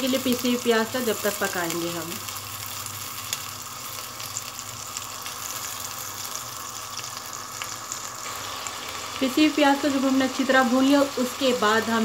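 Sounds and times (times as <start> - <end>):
onion paste sizzling in ghee: 0.0 - 12.0.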